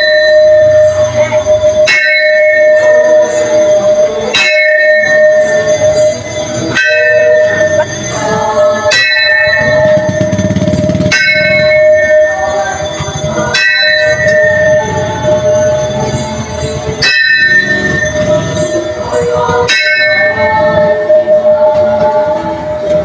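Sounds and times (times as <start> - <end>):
metal pipe bell struck with rod: 0.0 - 21.8.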